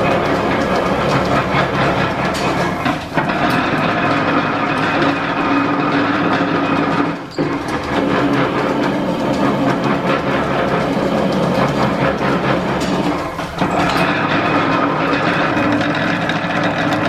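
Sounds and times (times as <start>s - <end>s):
metal planer clattering: 0.0s - 17.0s.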